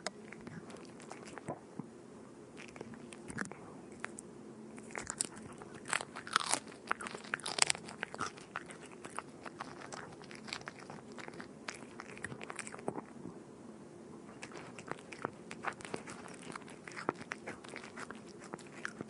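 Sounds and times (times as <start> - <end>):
cat chewing food: 0.0 - 1.7, 2.5 - 13.3, 14.2 - 19.0.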